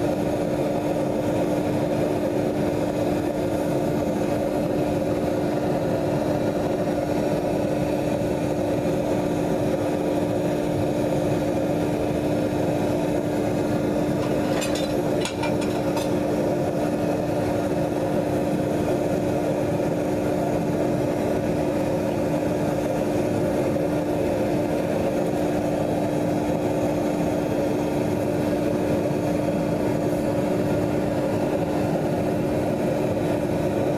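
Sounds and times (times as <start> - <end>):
hydraulic power unit humming: 0.0 - 33.9.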